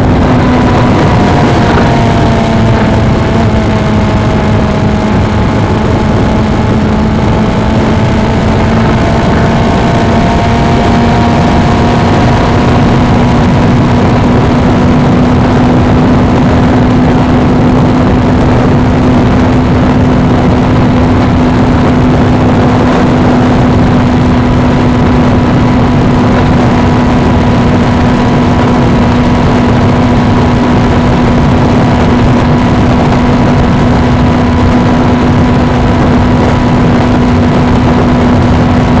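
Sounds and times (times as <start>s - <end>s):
motorcycle engine cruising: 0.0s - 39.0s
wind noise on microphone: 0.0s - 39.0s.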